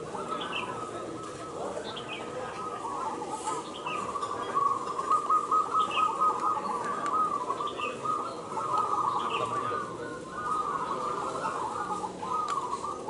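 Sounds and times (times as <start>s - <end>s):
doves cooing chorus: 0.0s - 13.0s.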